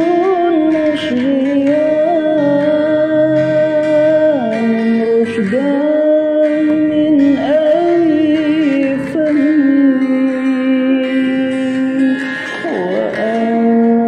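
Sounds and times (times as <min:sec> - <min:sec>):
musical accompaniment: 0:00.0 - 0:14.0
person singing devotional song: 0:00.0 - 0:14.0.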